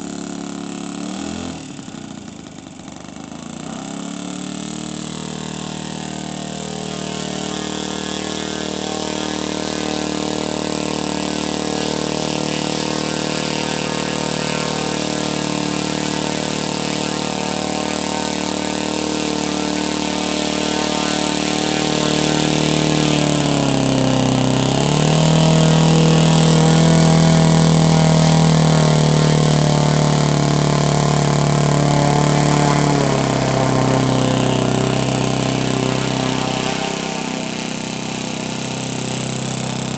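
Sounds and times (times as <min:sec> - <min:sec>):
model glow engine running: 0:00.0 - 0:39.9.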